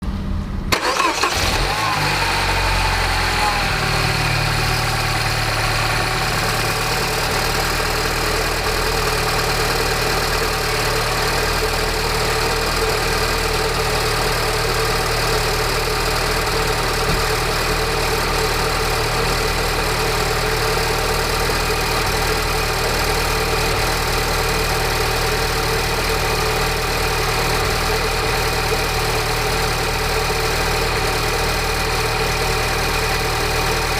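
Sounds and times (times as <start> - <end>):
car engine starting and idling: 0.0 - 33.9
engine rattling: 0.7 - 33.9.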